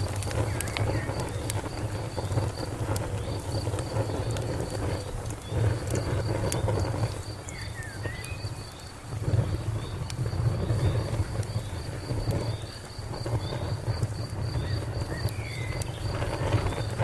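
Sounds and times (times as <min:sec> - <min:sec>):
crickets chirping: 0:00.0 - 0:17.0
fire crackling and popping: 0:00.0 - 0:17.0.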